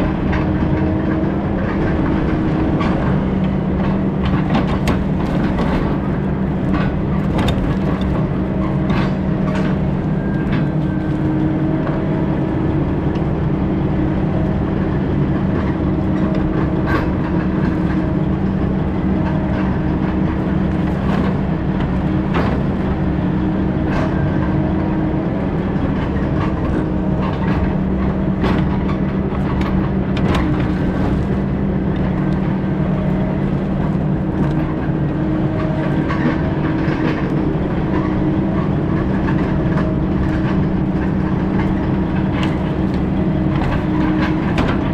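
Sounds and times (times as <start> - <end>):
heavy machine engine running: 0.0 - 44.9.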